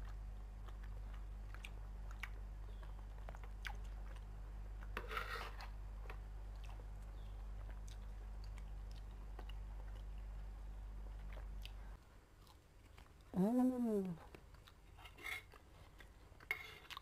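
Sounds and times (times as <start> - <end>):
chewing food: 0.0 - 13.4, 14.1 - 17.0
steady low hum: 0.0 - 14.8.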